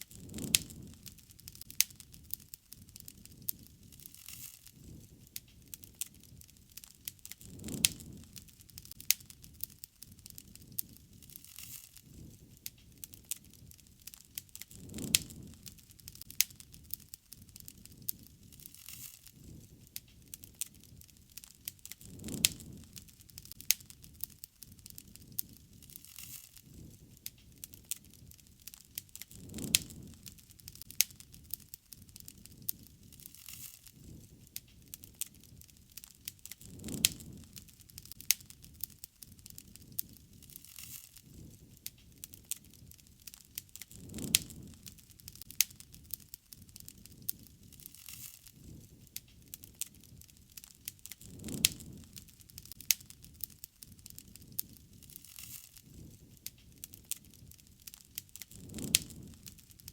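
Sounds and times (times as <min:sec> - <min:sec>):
wood bonfire crackling: 0:00.0 - 0:59.9.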